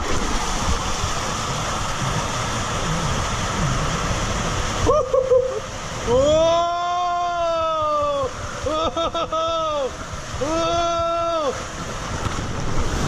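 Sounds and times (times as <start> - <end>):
water rushing in slide tube: 0.0 - 13.0.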